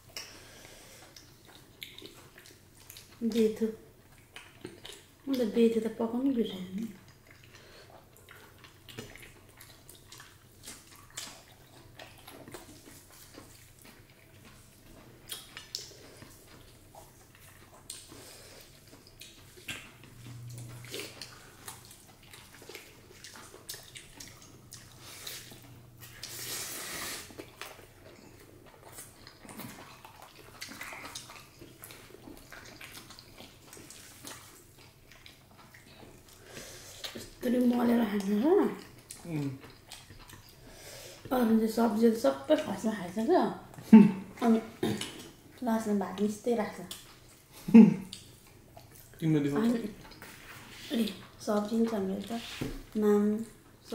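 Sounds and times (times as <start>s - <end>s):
chewing food: 0.0s - 53.9s.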